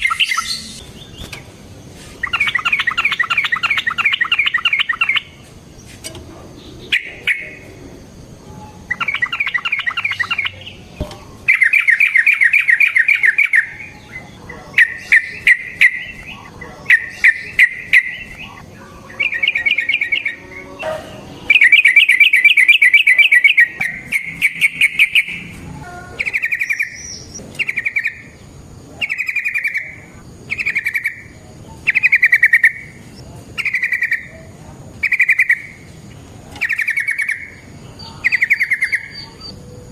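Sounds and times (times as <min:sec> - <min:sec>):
bird singing trilled phrases: 0:00.0 - 0:01.5, 0:02.2 - 0:05.8, 0:06.6 - 0:25.5, 0:26.2 - 0:34.4, 0:35.0 - 0:39.7.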